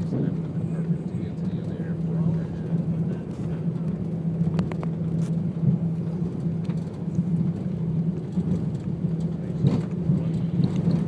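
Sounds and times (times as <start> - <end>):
aircraft cabin hum and rumble: 0.0 - 11.0.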